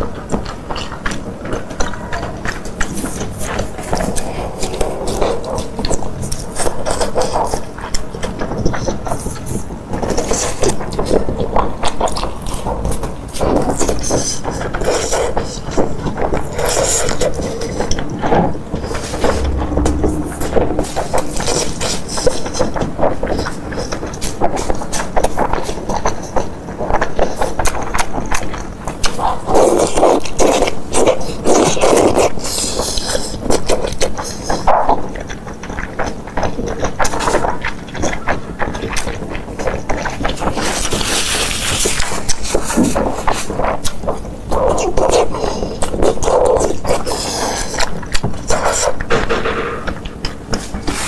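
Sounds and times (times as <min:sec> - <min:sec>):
chewing and slurping noodles: 0:00.0 - 0:19.6, 0:21.4 - 0:51.0.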